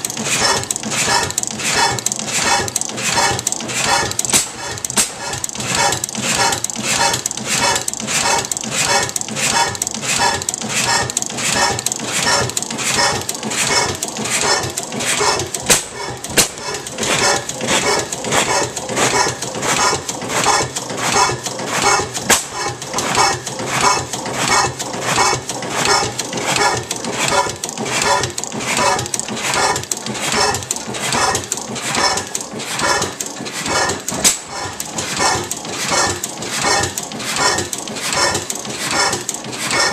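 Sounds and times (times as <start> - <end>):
gas engine clacking: 0.0 - 39.9.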